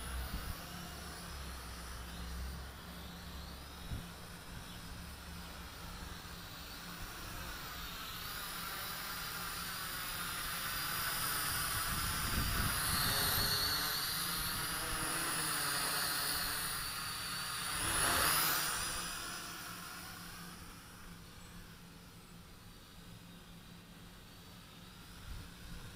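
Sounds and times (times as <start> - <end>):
drone propellers whining: 0.0 - 25.9.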